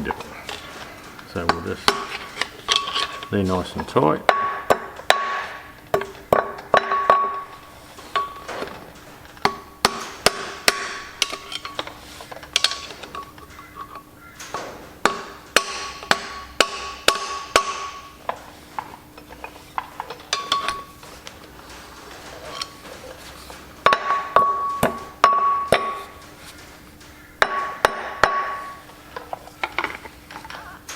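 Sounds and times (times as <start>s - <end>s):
metal scraping: 0.0s - 30.9s
hammer tapping on metal: 4.2s - 30.0s.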